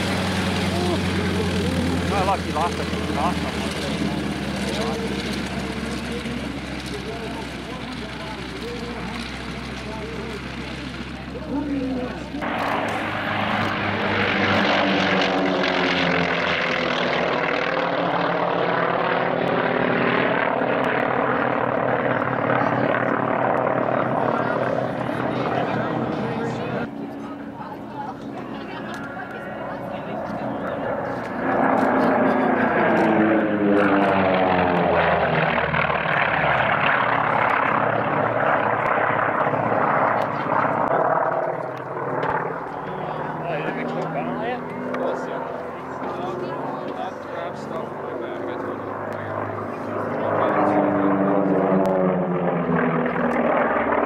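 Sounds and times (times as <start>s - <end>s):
propeller airplane engine: 0.0s - 54.0s.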